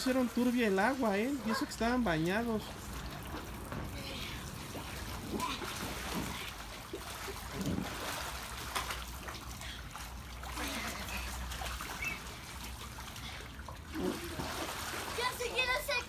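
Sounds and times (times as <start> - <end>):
water splashing in a pool: 0.0 - 16.0.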